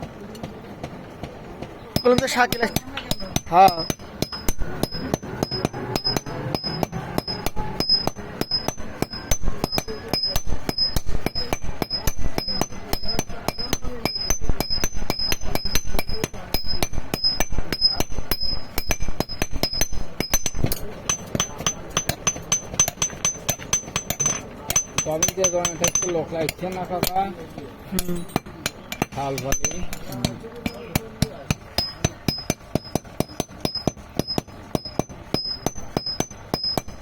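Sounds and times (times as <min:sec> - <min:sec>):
hammers striking iron on anvil: 0:00.2 - 0:37.0.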